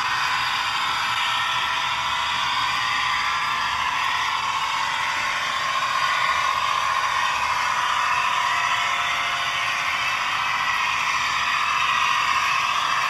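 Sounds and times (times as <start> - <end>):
model train diesel engine sound: 0.0 - 13.0.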